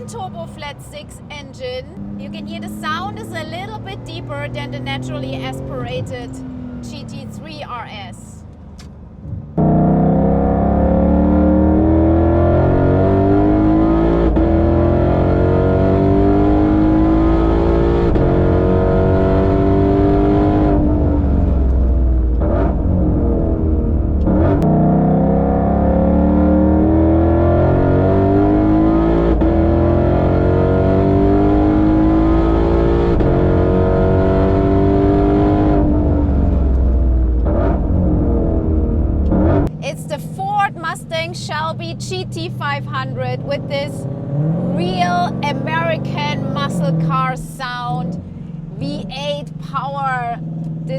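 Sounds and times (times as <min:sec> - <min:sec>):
car engine at full throttle: 0:00.0 - 0:50.9.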